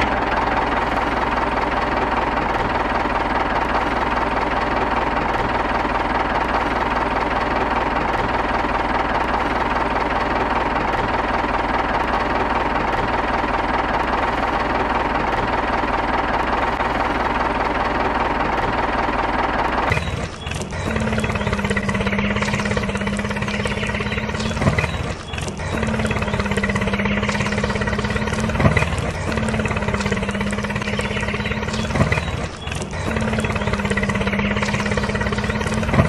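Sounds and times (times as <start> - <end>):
diesel tractor engine knocking: 0.0 - 36.0.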